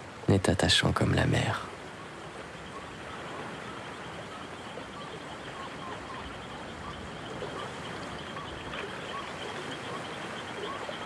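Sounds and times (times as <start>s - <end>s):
calm sea rushing: 0.0s - 11.0s.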